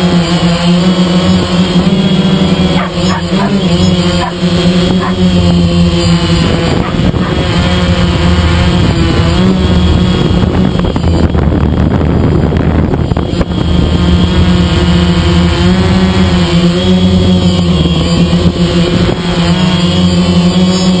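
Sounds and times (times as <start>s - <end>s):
drone propellers humming: 0.0s - 21.0s
wind buffeting microphone: 0.8s - 19.6s.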